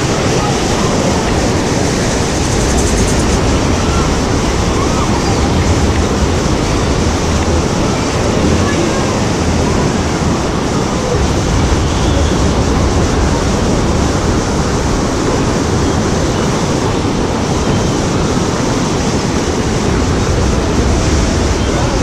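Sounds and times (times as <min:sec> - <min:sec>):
whitewater rushing: 0:00.0 - 0:22.0.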